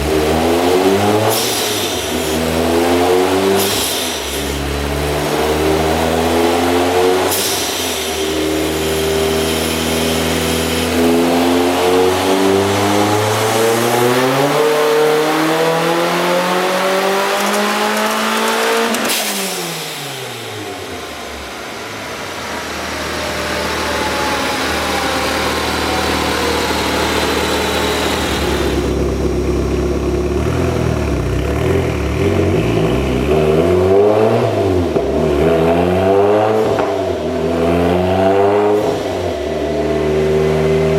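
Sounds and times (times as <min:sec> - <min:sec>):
car engine full-throttle revving: 0:00.0 - 0:40.9.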